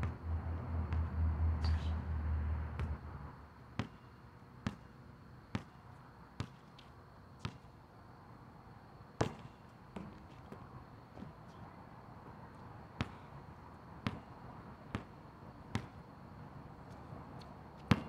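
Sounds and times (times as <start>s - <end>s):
basketball bouncing on asphalt: 0.0s - 1.2s, 2.7s - 7.8s, 9.2s - 11.6s, 12.2s - 18.0s.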